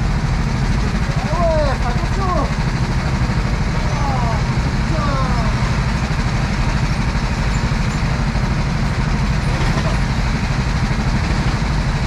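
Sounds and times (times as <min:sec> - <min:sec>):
go-kart engines idling: 0:00.0 - 0:12.0.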